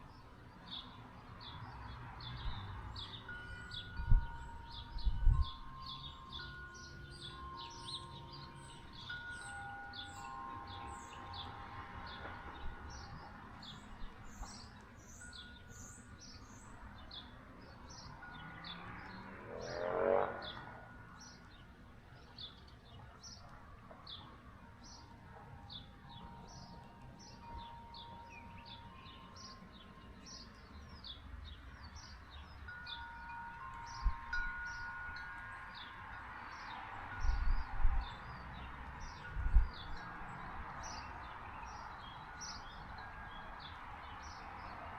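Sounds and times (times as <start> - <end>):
wind chimes ringing: 0.0 - 22.8, 23.8 - 44.9
small birds chirping: 0.0 - 44.9.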